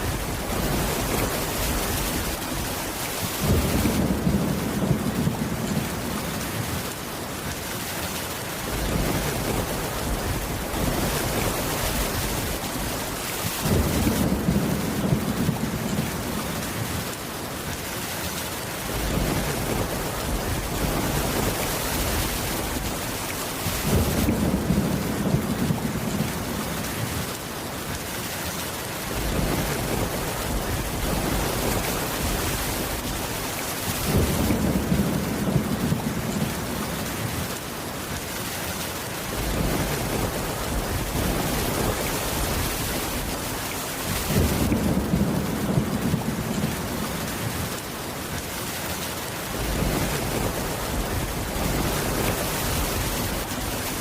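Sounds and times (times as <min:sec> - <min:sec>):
thunder rumbling: 0:00.0 - 0:06.9, 0:08.6 - 0:17.2, 0:18.8 - 0:27.3, 0:29.1 - 0:37.6, 0:39.3 - 0:47.8, 0:49.5 - 0:54.0
heavy rain: 0:00.0 - 0:54.0.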